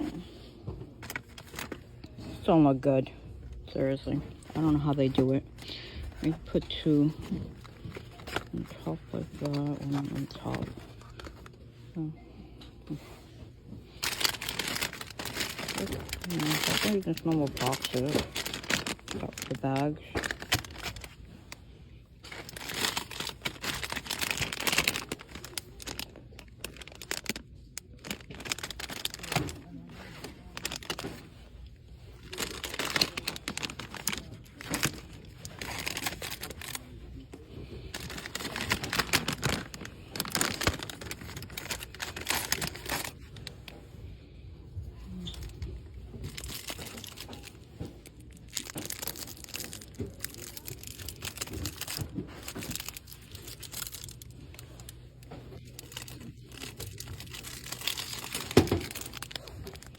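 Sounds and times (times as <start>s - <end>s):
bags crinkling and rustling: 0.0s - 44.1s, 44.9s - 59.9s.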